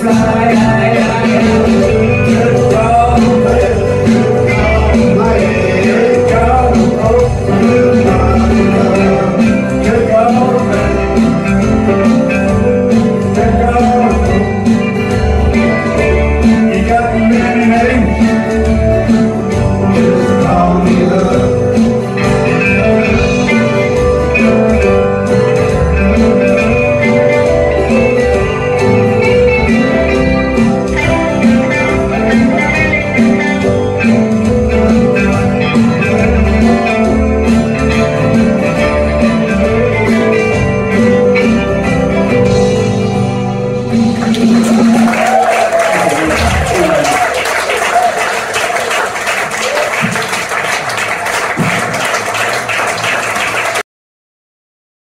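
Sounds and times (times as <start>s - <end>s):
strummed acoustic guitar: 0.0s - 45.6s
bass guitar: 0.0s - 53.8s
electric guitar: 0.0s - 53.8s
live band playing: 0.0s - 53.8s.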